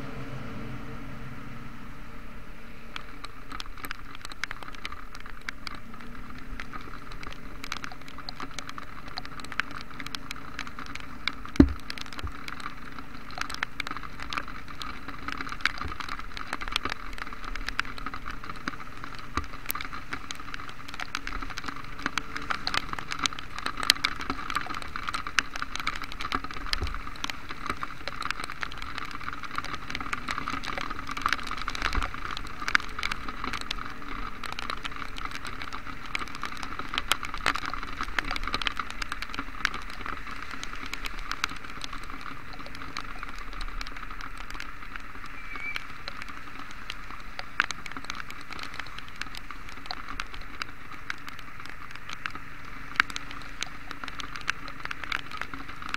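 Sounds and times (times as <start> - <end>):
rain hiss on wet road: 0.0 - 55.9
raindrops clicking on camera: 2.4 - 55.9.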